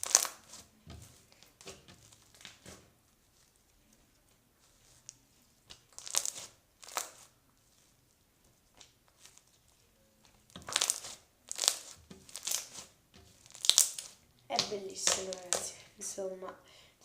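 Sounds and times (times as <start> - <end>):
slime crackling and popping: 0.0 - 15.7.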